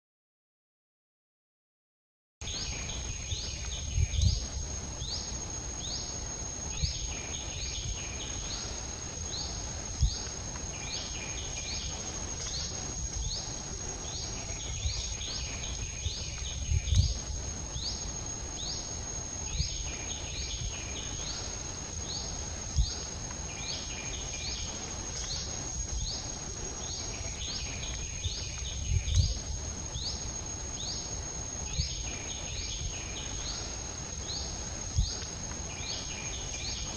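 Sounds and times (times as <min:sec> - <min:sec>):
high-pitched insect drone: 0:02.4 - 0:36.9.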